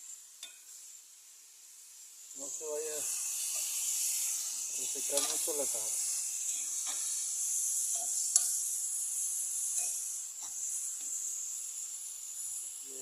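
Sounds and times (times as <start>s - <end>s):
salsa sizzling in a hot pan: 0.0s - 13.0s.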